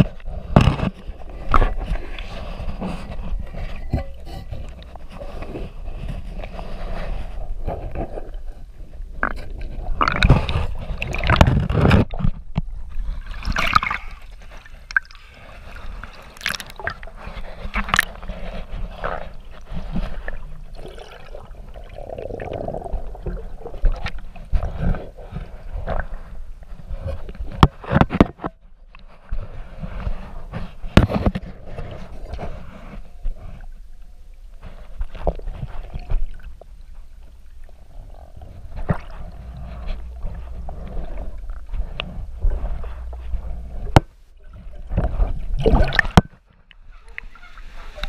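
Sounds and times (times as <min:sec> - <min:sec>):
water gurgling and sloshing: 0:00.0 - 0:48.0.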